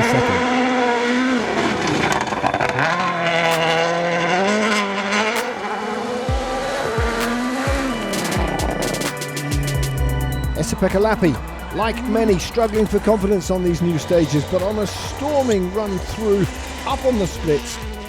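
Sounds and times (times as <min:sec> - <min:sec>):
rally car engine revving: 0:00.0 - 0:09.1, 0:10.8 - 0:18.0.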